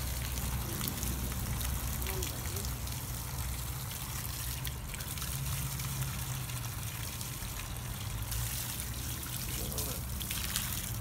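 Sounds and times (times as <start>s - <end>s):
water splashing from hose: 0.0s - 11.0s.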